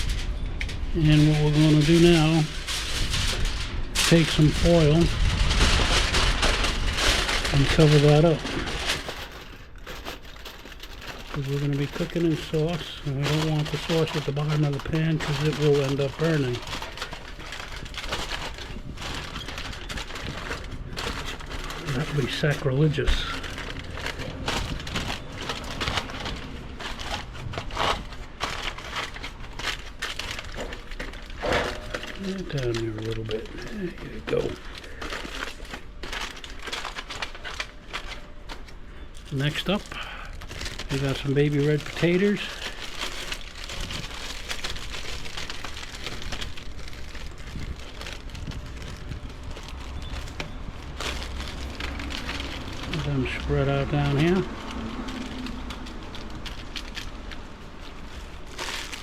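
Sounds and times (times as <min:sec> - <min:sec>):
aluminium foil crinkling: 0:00.0 - 0:59.0.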